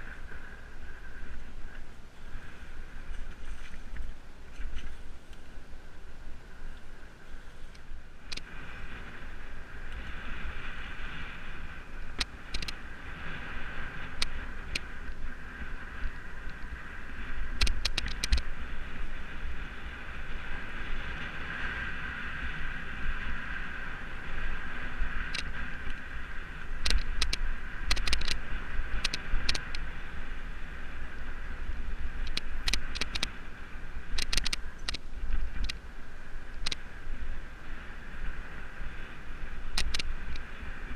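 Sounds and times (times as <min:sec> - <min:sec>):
bike clicking and rattling: 0:00.0 - 0:37.2, 0:38.9 - 0:40.9
wind on microphone: 0:00.0 - 0:40.9.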